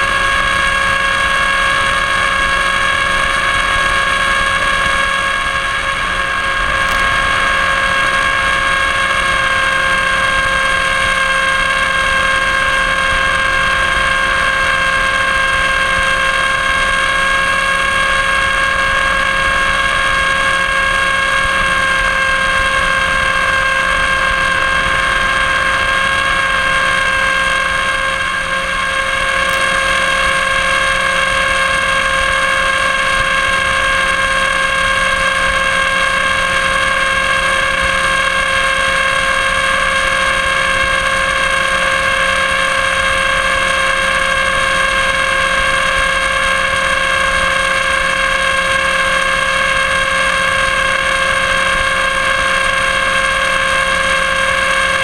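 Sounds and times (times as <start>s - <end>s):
electric motor and propeller whine: 0.0s - 55.0s.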